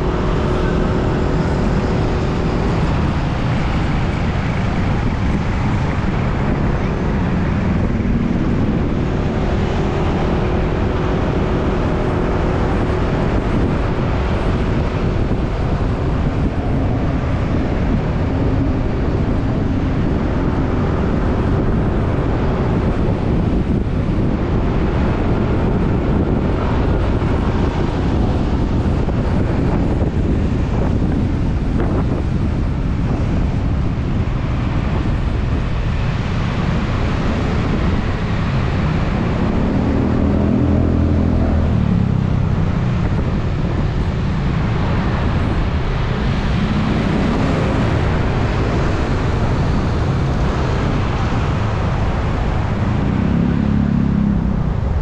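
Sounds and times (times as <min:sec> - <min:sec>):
road traffic: 0:00.0 - 0:55.0
wind noise on microphone: 0:00.0 - 0:55.0.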